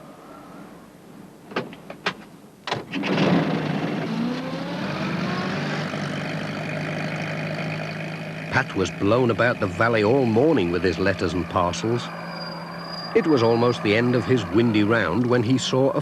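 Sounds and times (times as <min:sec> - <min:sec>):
van engine starting and running: 0:02.7 - 0:16.0.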